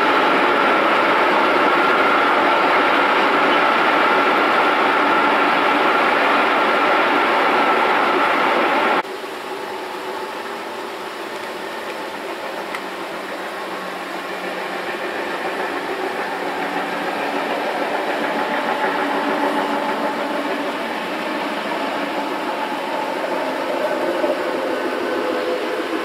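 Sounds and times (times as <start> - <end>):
loud rumbling noise: 0.0 - 26.0.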